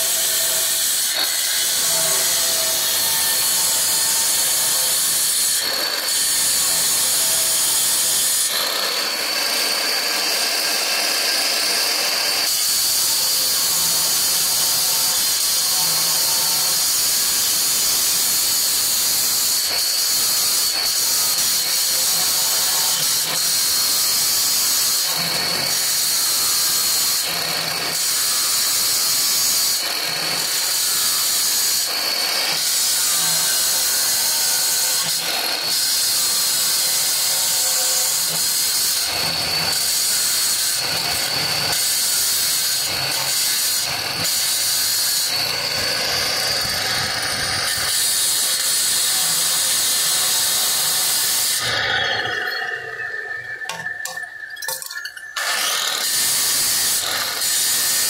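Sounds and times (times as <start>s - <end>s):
marble cutter whining: 0.0s - 58.0s.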